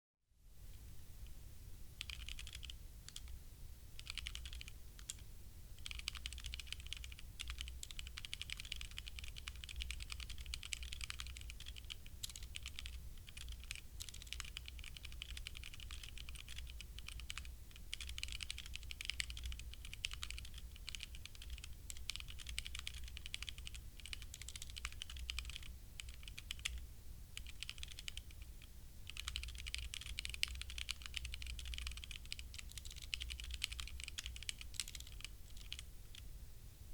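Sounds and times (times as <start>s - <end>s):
steady low hum: 0.4s - 36.9s
mechanical keyboard typing: 2.0s - 3.3s, 4.0s - 5.2s, 5.8s - 26.8s, 27.4s - 28.5s, 29.1s - 36.2s.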